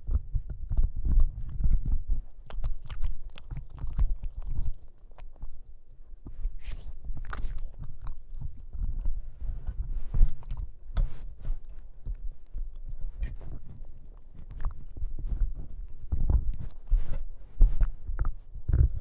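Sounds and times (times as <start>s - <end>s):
puppy chewing on microphone: 0.0s - 19.0s.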